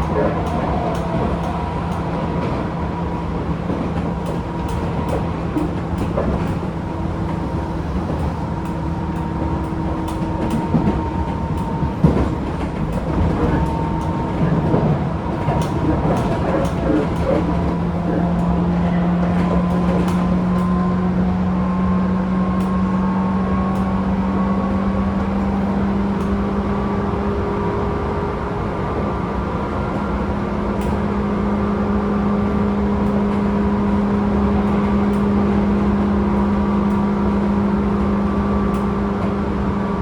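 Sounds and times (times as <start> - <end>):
train motor hum: 0.0 - 40.0
wheel and rail rumble: 0.0 - 40.0.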